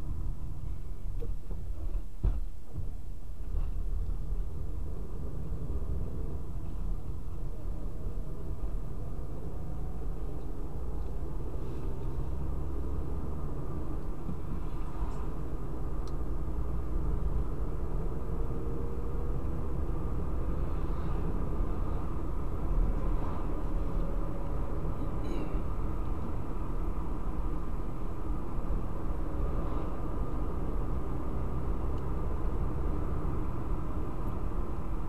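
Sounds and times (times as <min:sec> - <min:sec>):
tyres rumbling on road: 0:00.0 - 0:35.0
car engine drone: 0:03.4 - 0:35.0.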